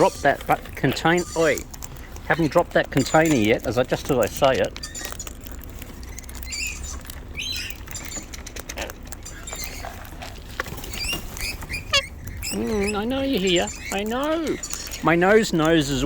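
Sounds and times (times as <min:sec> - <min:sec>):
beak and claw clicks and scratches: 0:00.0 - 0:16.0
parrots chirping and squeaking: 0:00.0 - 0:16.0.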